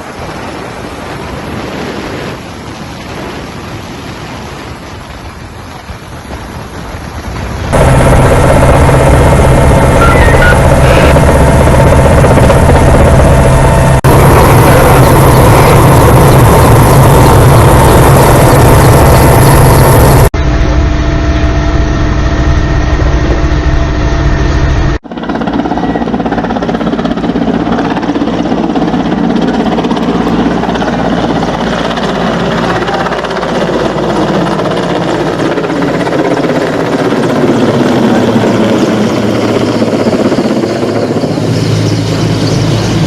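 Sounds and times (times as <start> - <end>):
helicopter engine and rotor: 7.7 - 43.0.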